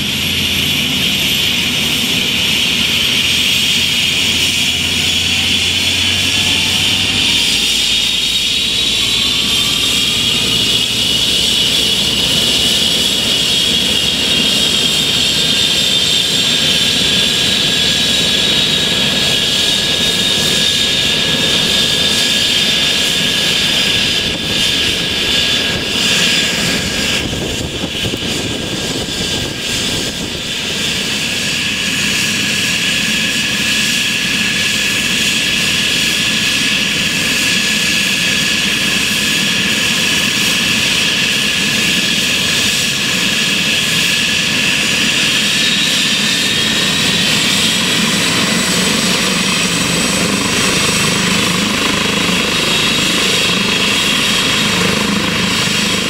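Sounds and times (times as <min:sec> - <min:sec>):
helicopter turbine whine: 0:00.0 - 0:56.0.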